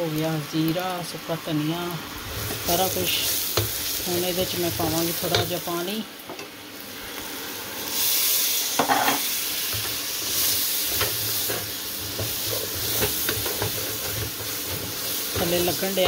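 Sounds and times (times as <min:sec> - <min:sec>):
onions sizzling in a pan: 0:00.0 - 0:16.0.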